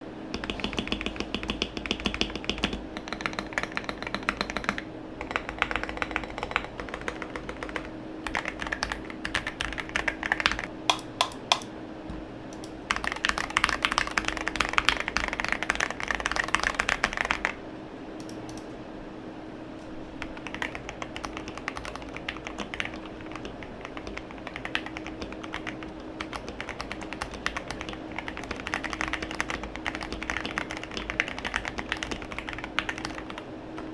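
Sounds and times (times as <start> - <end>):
mechanical keyboard typing: 0.3 - 11.7, 12.5 - 17.6, 20.2 - 33.9.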